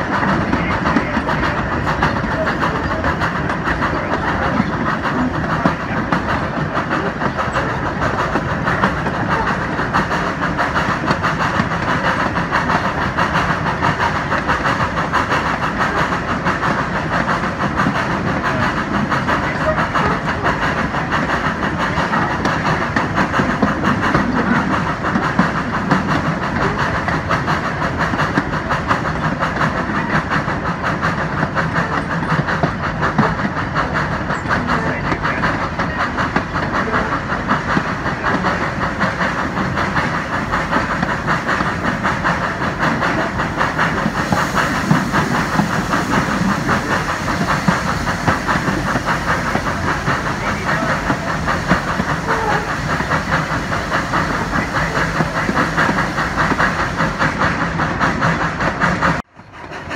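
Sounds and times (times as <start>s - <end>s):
carriage wheels clattering on rails: 0.0s - 59.9s
steam hissing: 0.0s - 59.9s
steam locomotive exhaust beats: 0.0s - 59.9s.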